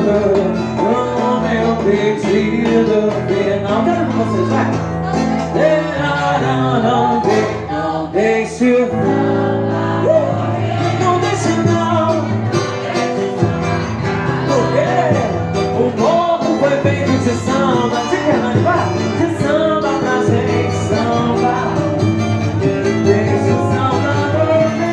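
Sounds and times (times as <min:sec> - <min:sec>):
percussion: 0:00.0 - 0:07.8, 0:09.8 - 0:24.9
low bass notes: 0:00.0 - 0:24.9
person singing lead: 0:00.0 - 0:24.9.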